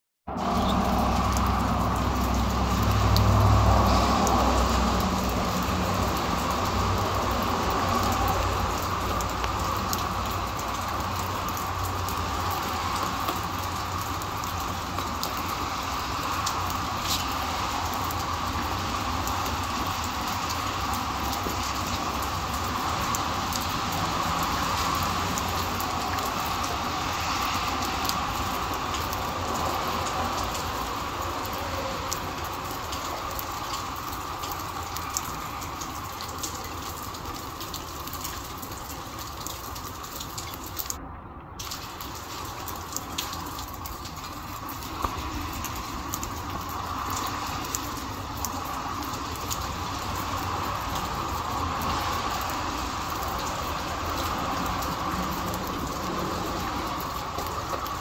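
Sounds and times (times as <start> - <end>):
steady rain falling: 0.3 - 58.0
raindrop ticks: 0.4 - 41.0, 41.6 - 58.0.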